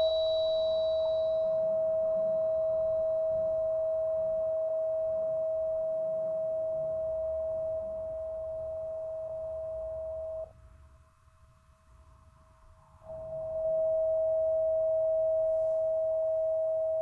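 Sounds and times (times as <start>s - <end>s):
tuning fork ringing: 0.0s - 10.5s, 12.9s - 17.0s.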